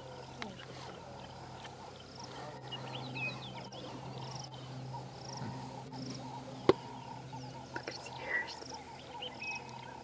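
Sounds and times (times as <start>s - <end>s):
steady low hum: 0.0s - 10.0s
warbling calls: 0.0s - 10.0s.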